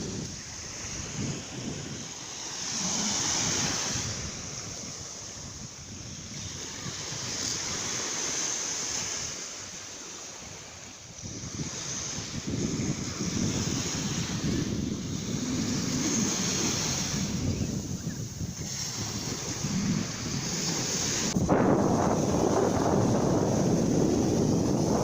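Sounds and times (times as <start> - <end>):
wind buffeting microphone: 0.0 - 9.4, 10.4 - 25.0
sea waves washing ashore: 0.0 - 25.0.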